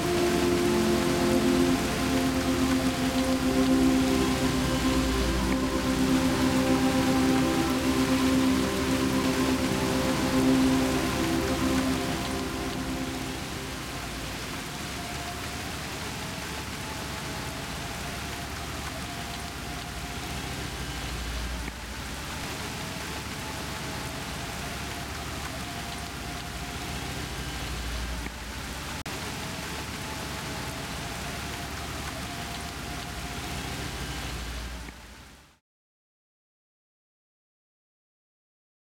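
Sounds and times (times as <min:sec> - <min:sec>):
heavy rain: 0:00.0 - 0:35.6.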